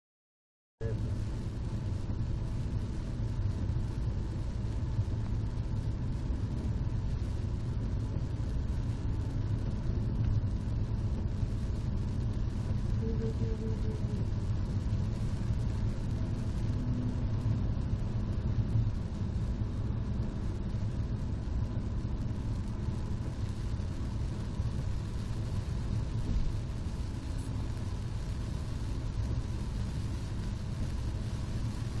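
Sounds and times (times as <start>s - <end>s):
car cabin road noise: 0.8s - 32.0s.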